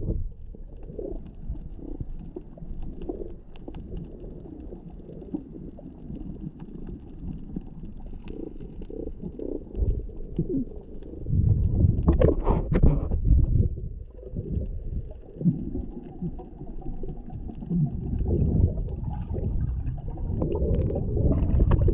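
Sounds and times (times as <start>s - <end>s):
bubbling gurgles: 0.0s - 21.9s
underwater water rumble: 0.0s - 21.9s.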